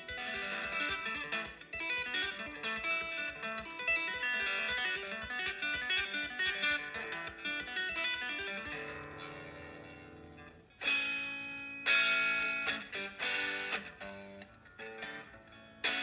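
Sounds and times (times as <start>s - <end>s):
electric guitar fingerstyle: 0.0s - 16.0s.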